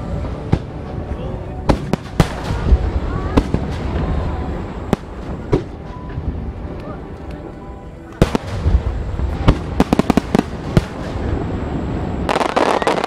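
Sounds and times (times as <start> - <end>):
fireworks bangs and crackles: 0.0 - 6.9, 8.2 - 13.0.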